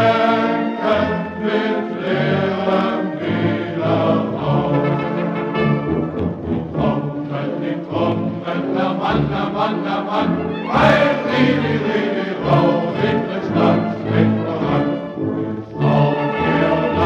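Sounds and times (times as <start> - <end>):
choir singing folk songs: 0.0 - 17.0.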